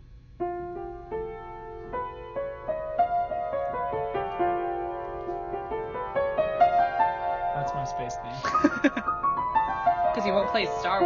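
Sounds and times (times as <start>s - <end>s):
slow piano playing: 0.0s - 11.0s.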